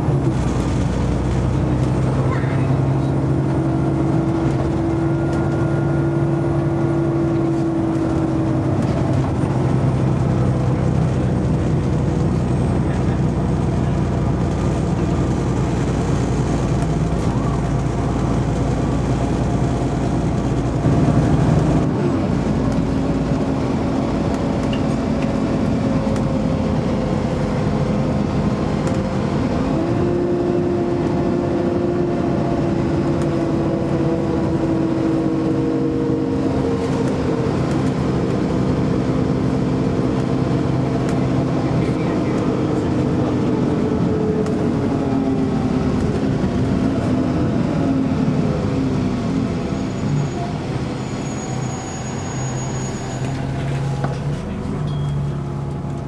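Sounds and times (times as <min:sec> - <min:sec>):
bus engine and gearbox whine: 0:00.0 - 0:56.0.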